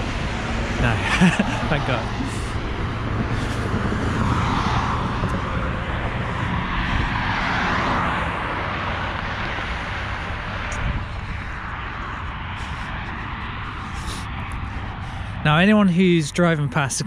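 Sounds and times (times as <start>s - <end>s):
low steady engine hum: 0.0s - 17.0s
passing vehicle engine and tyres: 0.0s - 17.0s.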